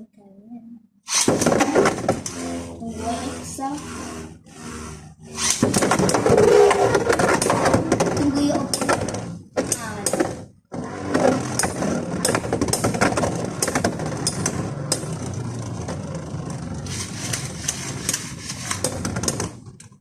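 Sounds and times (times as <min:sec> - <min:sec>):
spinning tops whirring and scraping: 0:01.1 - 0:19.9.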